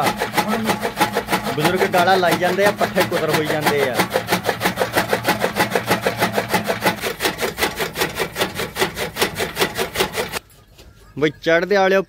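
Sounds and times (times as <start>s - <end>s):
chaff cutter chopping fodder: 0.0s - 10.4s.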